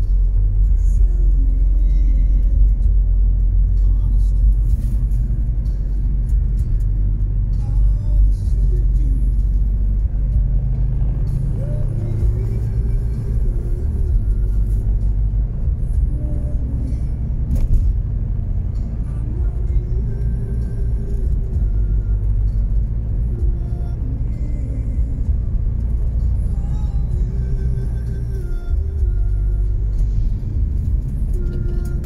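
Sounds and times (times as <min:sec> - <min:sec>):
car engine and tyres rumbling: 0:00.0 - 0:32.0
faint music: 0:00.0 - 0:32.0.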